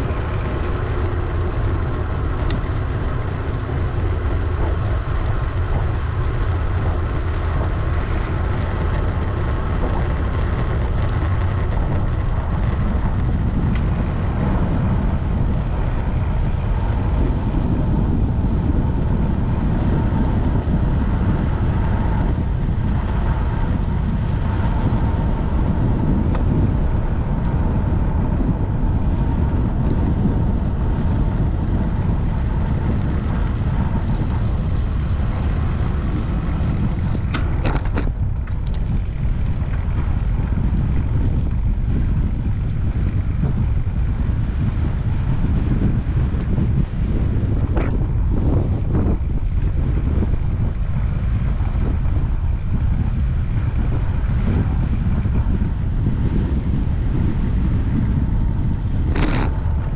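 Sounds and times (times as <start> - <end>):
bicycle tyres rolling on asphalt: 0.0 - 59.9
wind buffeting microphone: 0.0 - 59.9.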